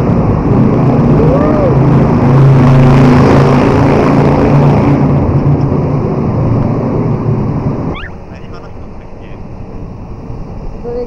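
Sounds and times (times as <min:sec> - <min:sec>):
motorcycle engines droning in tunnel: 0:00.0 - 0:11.0.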